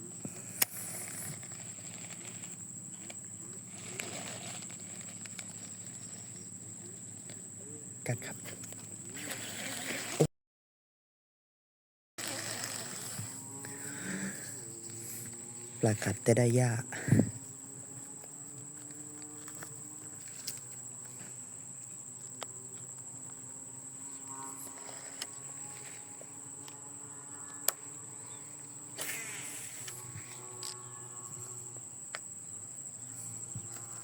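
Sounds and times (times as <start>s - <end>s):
insects trilling: 0.0s - 10.3s, 12.2s - 34.0s.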